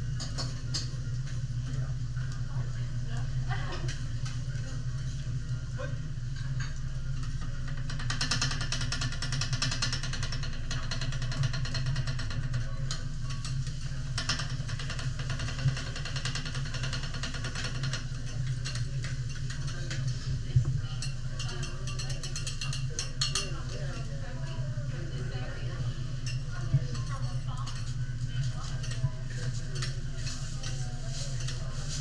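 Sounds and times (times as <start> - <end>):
kitchen ventilation hum: 0.0 - 32.0.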